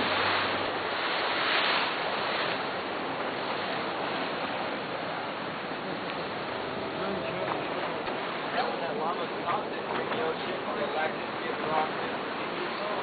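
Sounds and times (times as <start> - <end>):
ocean waves: 0.0 - 13.0
wind: 0.0 - 13.0.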